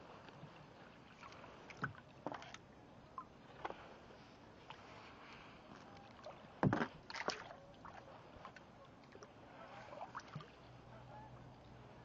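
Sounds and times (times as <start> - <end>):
water dripping and lapping: 0.0 - 10.8
paddle splashing in water: 0.4 - 10.8.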